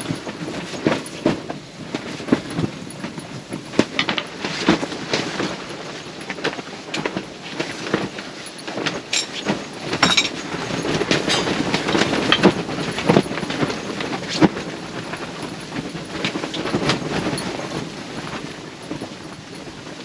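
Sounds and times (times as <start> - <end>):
tent fabric flapping in wind: 0.0 - 20.0.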